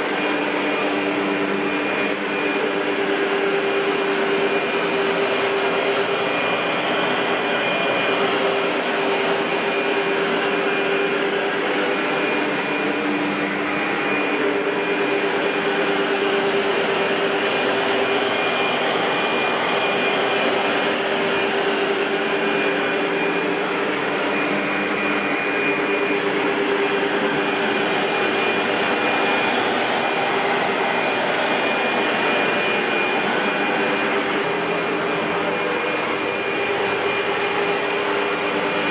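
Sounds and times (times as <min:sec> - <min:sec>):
faint high whine: 0:00.0 - 0:38.9
vacuum cleaner running: 0:00.0 - 0:38.9.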